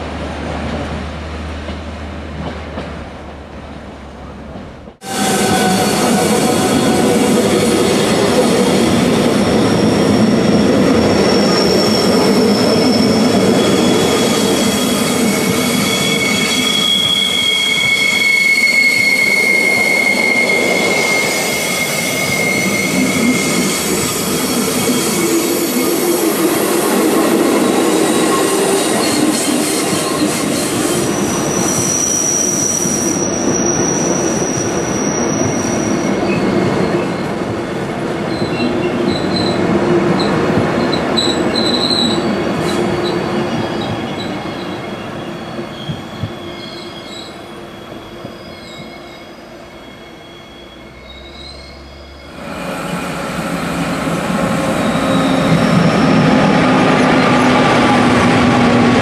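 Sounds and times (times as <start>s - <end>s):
train wheels rumbling on rails: 0.0s - 49.2s, 50.6s - 59.0s
wheels squealing: 5.1s - 37.3s, 40.2s - 59.0s.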